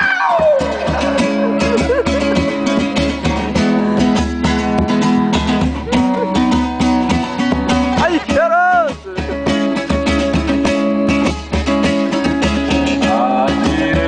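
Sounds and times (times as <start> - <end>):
acoustic guitar strumming: 0.0 - 14.0
low pulsing bass: 0.4 - 14.0.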